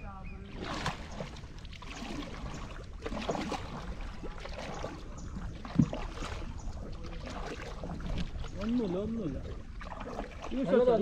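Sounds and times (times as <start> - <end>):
water splashing from paddling: 0.3 - 11.0.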